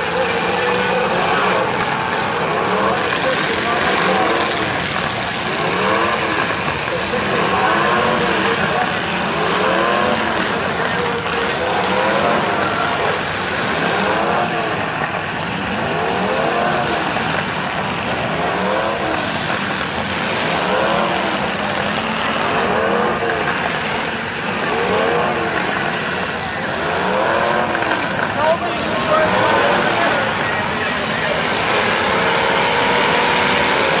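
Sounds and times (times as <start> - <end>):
car engines revving: 0.0 - 34.0
large crowd noise: 0.0 - 34.0.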